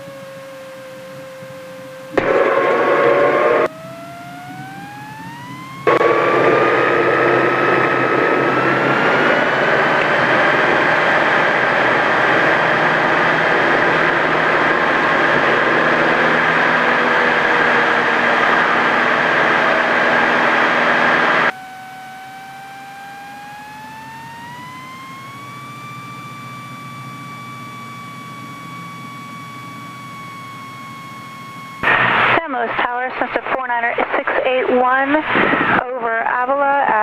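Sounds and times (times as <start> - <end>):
rising engine tone: 0.0 - 32.6
airplane engine and propeller: 0.0 - 37.0.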